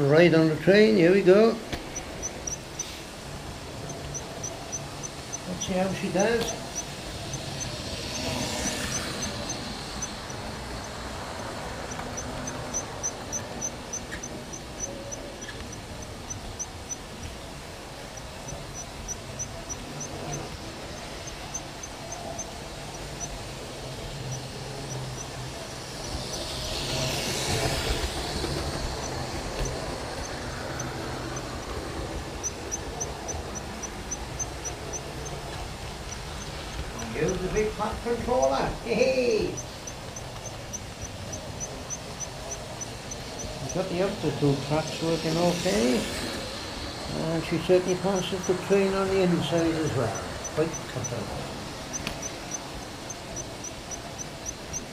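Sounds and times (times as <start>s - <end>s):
fast high ticking: 0.0s - 54.9s
wheel-on-rail rumble: 0.0s - 54.9s
model train motor hum: 0.6s - 54.9s.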